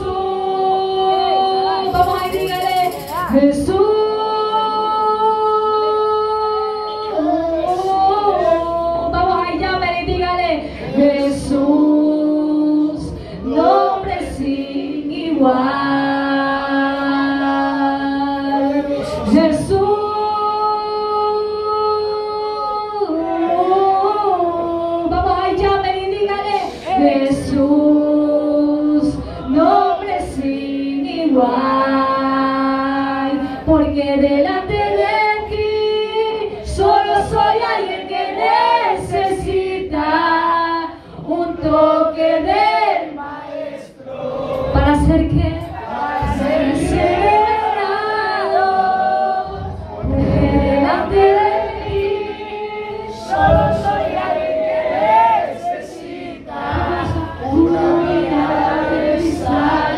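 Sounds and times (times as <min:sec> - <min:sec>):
woman singing into microphone: 0:00.0 - 0:43.2, 0:44.6 - 0:54.6, 0:56.4 - 0:59.9.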